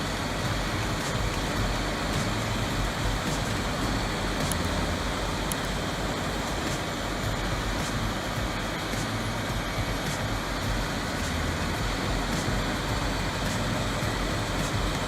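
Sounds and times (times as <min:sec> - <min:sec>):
diesel machine engine drone: 0:00.0 - 0:15.0.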